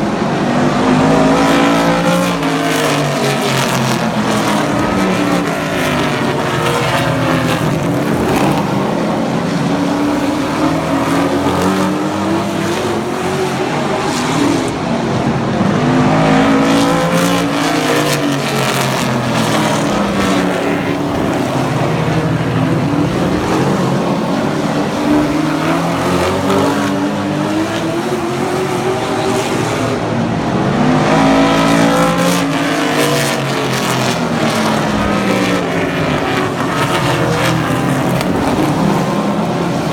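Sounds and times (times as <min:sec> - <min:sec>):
truck engines racing: 0:00.0 - 0:39.9.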